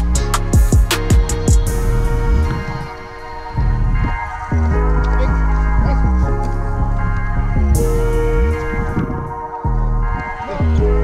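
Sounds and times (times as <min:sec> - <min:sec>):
deep bass: 0:00.0 - 0:02.9, 0:03.6 - 0:11.0
background music with sustained tones: 0:00.0 - 0:11.0.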